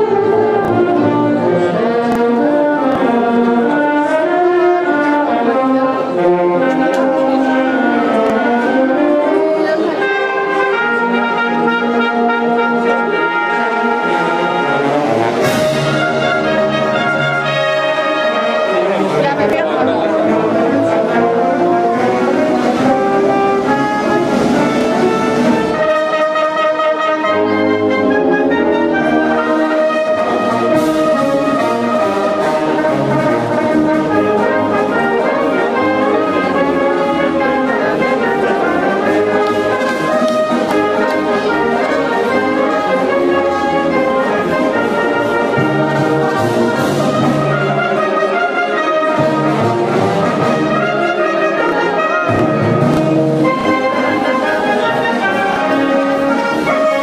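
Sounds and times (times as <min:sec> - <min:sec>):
wind band playing: 0:00.0 - 0:57.0.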